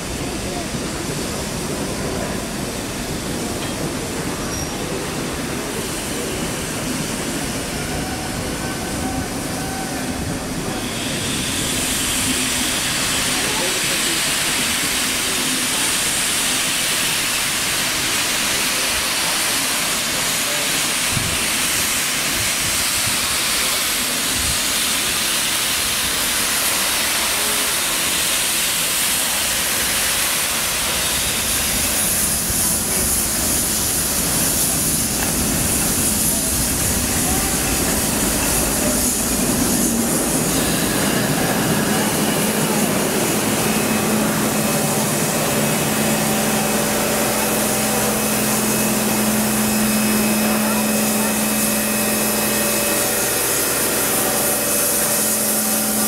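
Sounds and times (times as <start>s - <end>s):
steam hissing: 0.0s - 56.0s
steam locomotive moving slowly: 0.0s - 56.0s.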